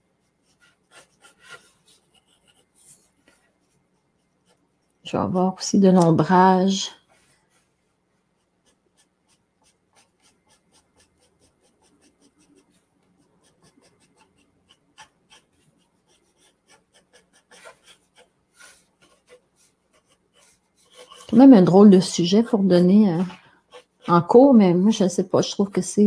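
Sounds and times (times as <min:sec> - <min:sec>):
pencil scratching on paper: 0:00.2 - 0:04.9, 0:06.4 - 0:25.3.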